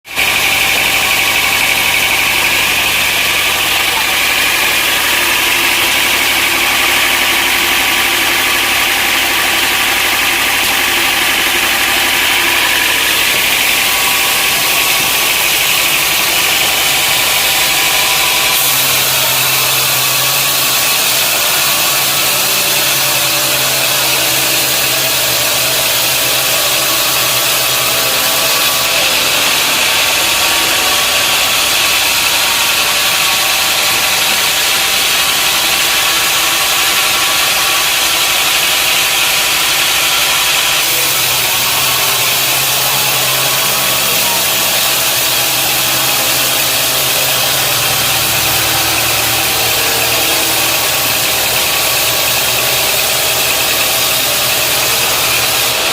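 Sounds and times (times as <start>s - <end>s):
sawmill machinery humming and hissing: 0.0s - 55.9s.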